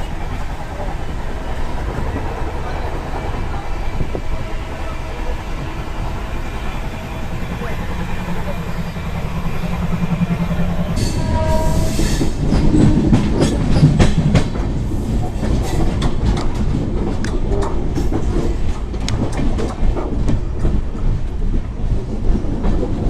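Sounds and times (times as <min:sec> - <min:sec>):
train rumble: 0:00.0 - 0:23.0
train wheels clattering over rail joints: 0:00.0 - 0:23.0.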